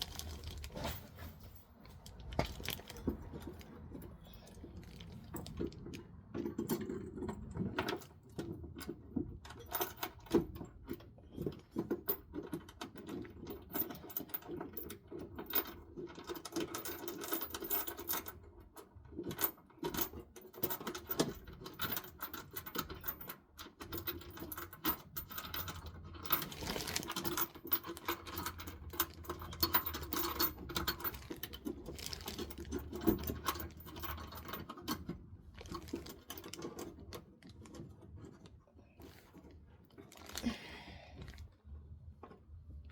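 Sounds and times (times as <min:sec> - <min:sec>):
metal hardware clicking and jangling: 0:00.0 - 0:18.4, 0:19.2 - 0:38.4.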